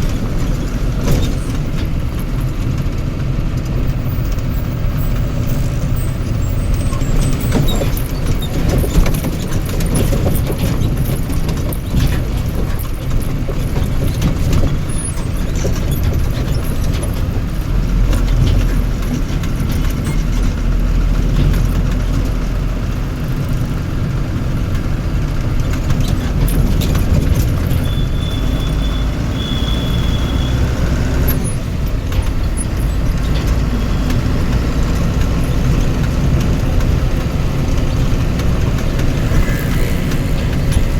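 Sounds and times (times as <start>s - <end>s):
rattles and knocks: 0.0s - 22.7s, 24.5s - 28.6s, 31.0s - 40.9s
vehicle engine rumbling: 0.0s - 40.9s.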